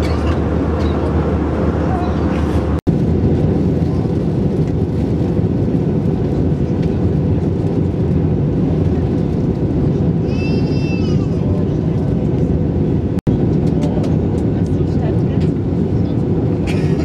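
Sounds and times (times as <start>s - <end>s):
jet engine drone in cabin: 0.0s - 17.0s.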